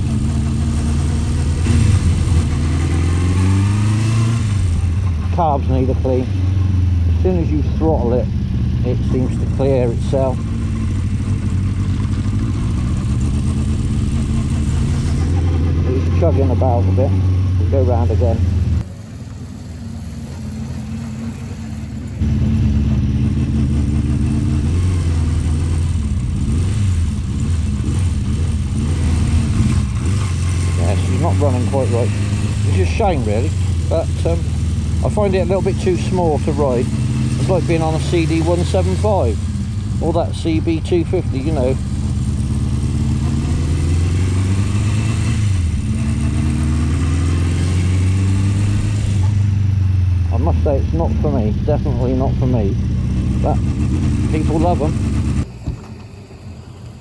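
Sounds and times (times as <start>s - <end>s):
motorcycle engine running lumpy: 0.0s - 57.0s.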